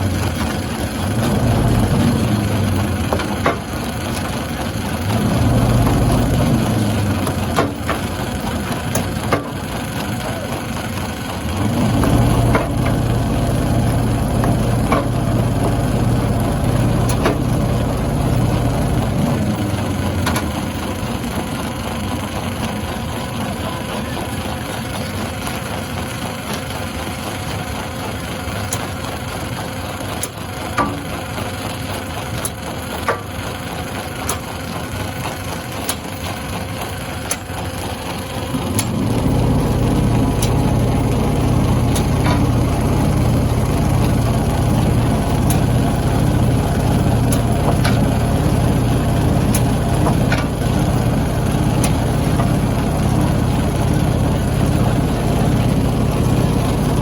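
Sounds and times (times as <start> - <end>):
low machine drone: 0.0 - 26.3, 37.2 - 57.0.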